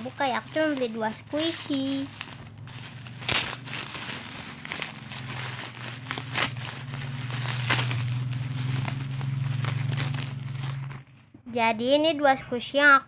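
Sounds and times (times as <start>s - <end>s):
bubble wrap crackling: 0.0s - 11.3s.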